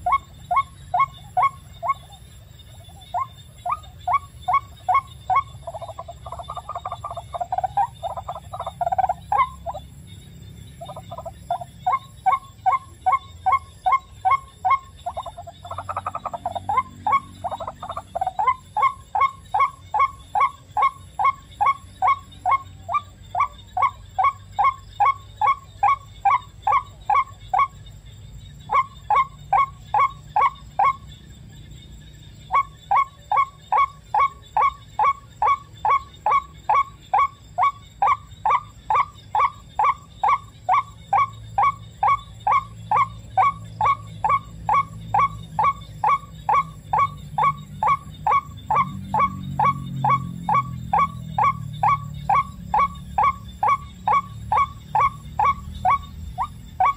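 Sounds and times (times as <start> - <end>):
waterhen calling: 0.0 - 10.0, 10.7 - 27.8, 28.7 - 31.1, 32.5 - 56.9.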